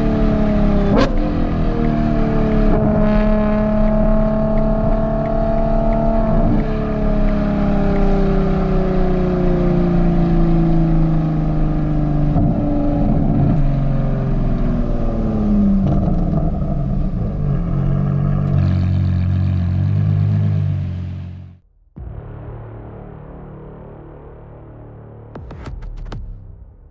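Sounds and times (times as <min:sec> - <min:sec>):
car engine revs falling: 0:00.0 - 0:21.6.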